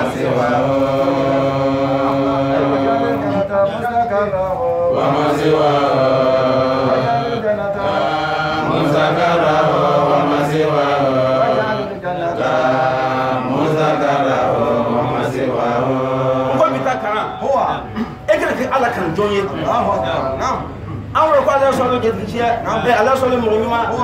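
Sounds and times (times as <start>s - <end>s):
man chanting: 0.0s - 24.0s.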